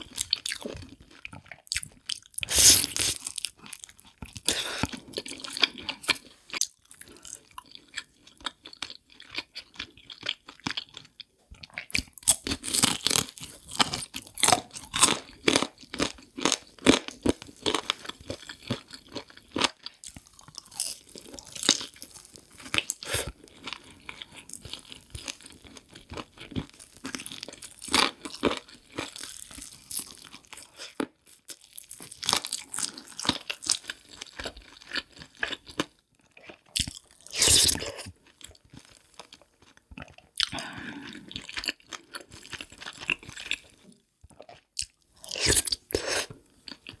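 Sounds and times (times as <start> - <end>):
chewing crunchy food: 0.0 - 47.0.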